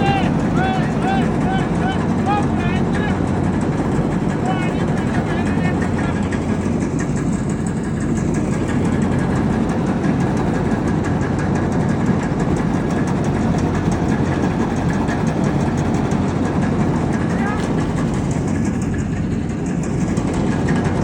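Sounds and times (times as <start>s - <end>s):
tractor diesel engine clattering: 0.0s - 21.0s.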